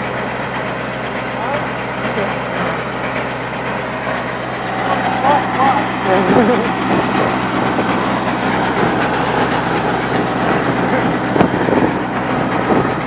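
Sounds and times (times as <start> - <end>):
baler machinery noise: 0.0 - 13.0
tractor engine drone: 0.0 - 13.0.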